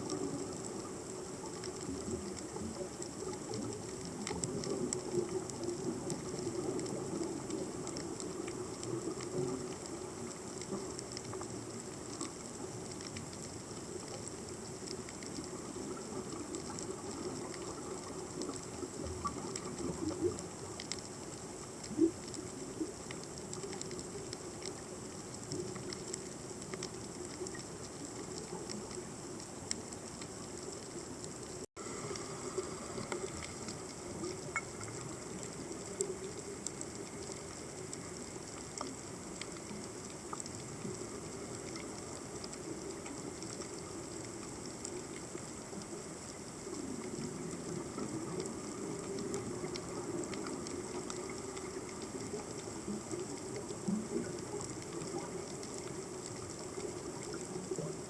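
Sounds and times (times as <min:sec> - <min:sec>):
low underwater drone: 0:00.0 - 0:58.0.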